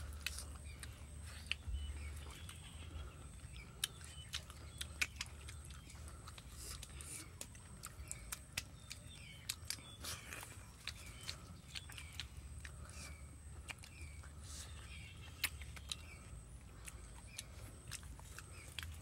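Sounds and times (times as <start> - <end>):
chewing: 0.0 - 19.0
low steady rumble: 0.0 - 19.0.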